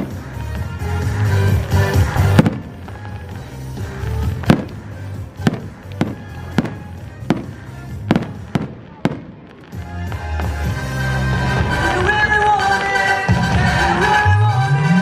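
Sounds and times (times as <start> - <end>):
fireworks exploding: 0.0 - 14.2
music: 0.0 - 15.0.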